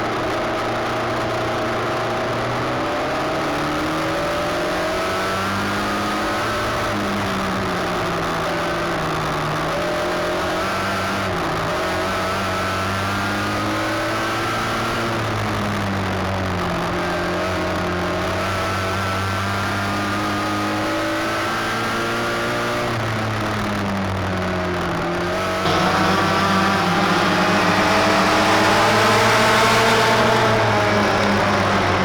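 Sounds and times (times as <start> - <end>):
race car engine running: 0.0 - 32.0.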